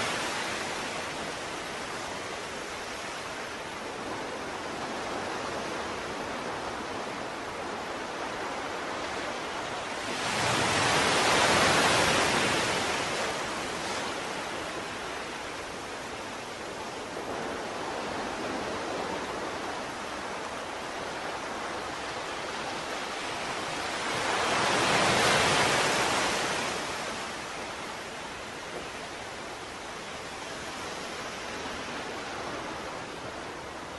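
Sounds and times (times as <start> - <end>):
ocean waves washing in: 0.0 - 33.9.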